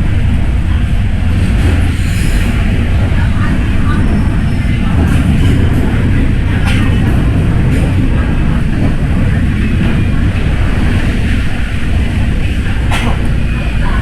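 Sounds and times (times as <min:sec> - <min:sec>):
train rumbling through tunnel: 0:00.0 - 0:14.0.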